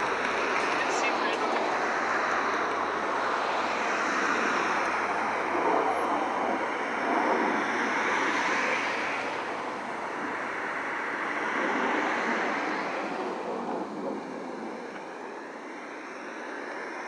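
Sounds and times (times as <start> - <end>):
distant jets flying past: 0.0 - 17.0.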